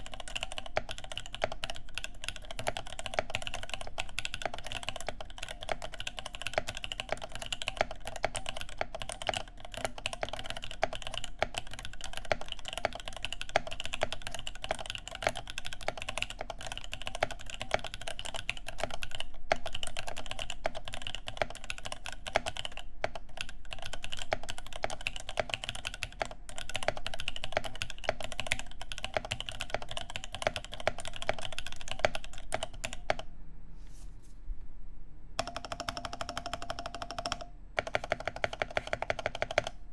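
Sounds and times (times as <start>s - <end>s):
fast typing on mechanical keyboard: 0.0s - 33.3s, 35.4s - 39.8s.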